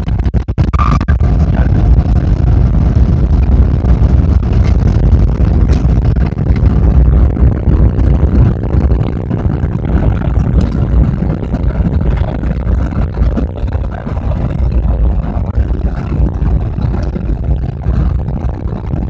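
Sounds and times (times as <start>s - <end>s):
wheels rumbling on runway: 0.0s - 19.0s.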